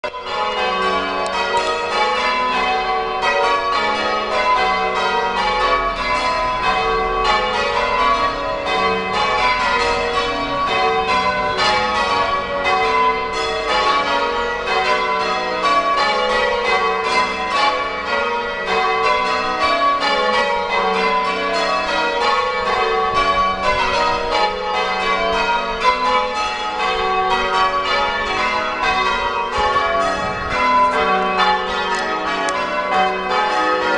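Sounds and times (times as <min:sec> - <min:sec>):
church bells change ringing: 0:00.0 - 0:33.9.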